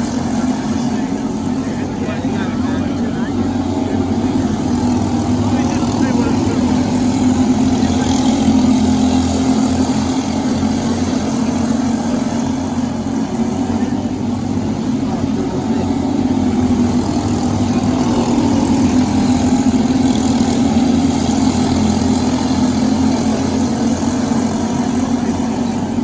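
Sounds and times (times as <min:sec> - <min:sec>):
kart engine droning: 0:00.0 - 0:26.0.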